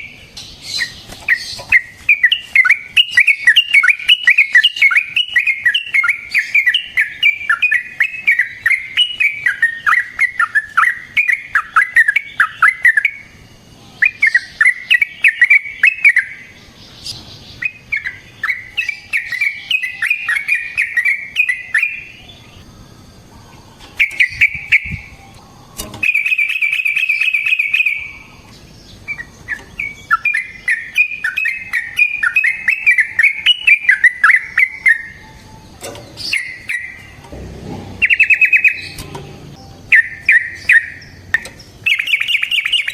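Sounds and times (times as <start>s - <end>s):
bird trill: 0.0s - 42.9s
bulbul chattering song: 0.0s - 42.9s.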